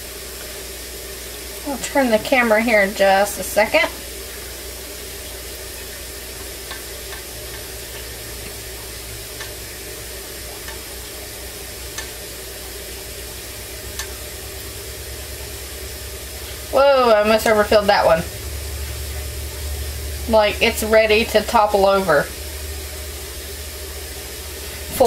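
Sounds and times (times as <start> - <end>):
faint hum: 0.0 - 25.0
liquid pouring hiss: 0.0 - 25.0.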